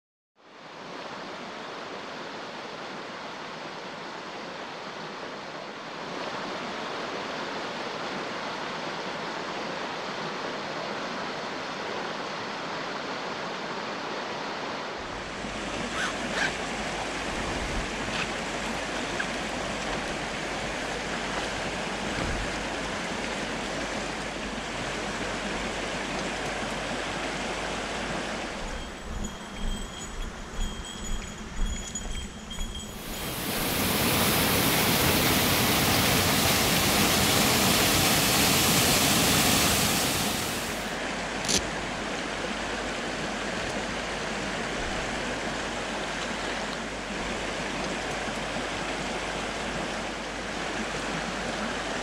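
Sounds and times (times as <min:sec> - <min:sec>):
mountain stream rushing over rocks: 0:00.5 - 0:29.1, 0:32.7 - 0:52.0.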